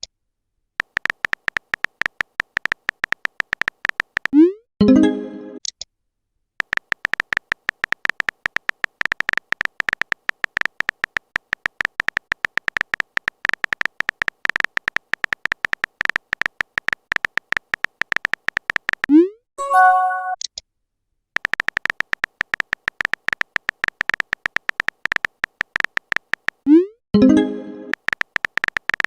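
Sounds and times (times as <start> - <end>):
typing clicks with high beeps: 0.8 - 4.6, 6.6 - 20.5, 21.4 - 29.0.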